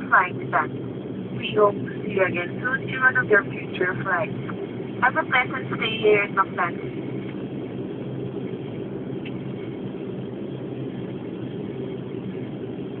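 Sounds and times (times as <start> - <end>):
airliner engine drone: 0.0 - 13.0.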